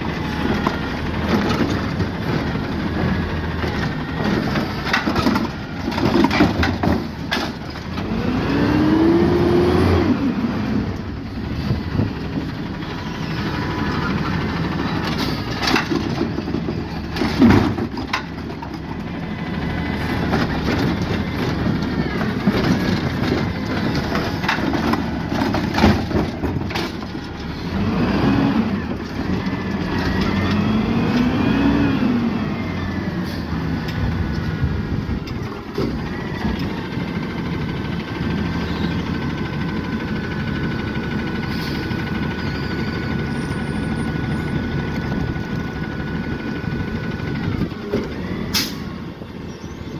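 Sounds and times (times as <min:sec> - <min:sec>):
truck engine revving: 0:00.0 - 0:49.9.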